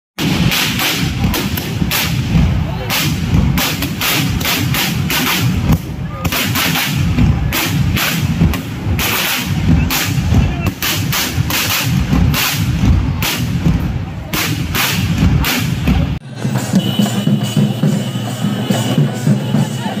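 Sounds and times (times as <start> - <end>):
fireworks bursting: 0.2 - 19.9.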